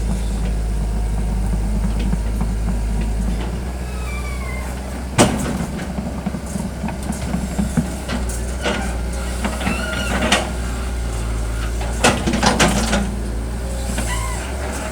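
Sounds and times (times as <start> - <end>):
excavator diesel engine running: 0.0 - 14.9.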